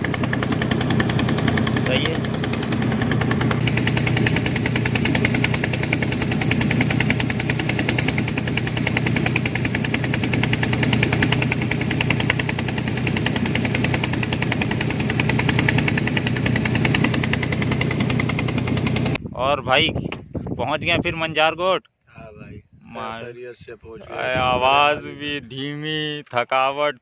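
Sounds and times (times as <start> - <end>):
boat engine running: 0.0 - 21.1, 22.2 - 26.4
wind: 0.0 - 27.0.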